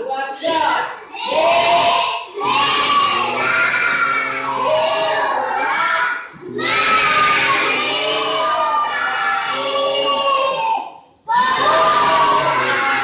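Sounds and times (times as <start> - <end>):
children reciting in unison: 0.4 - 13.0.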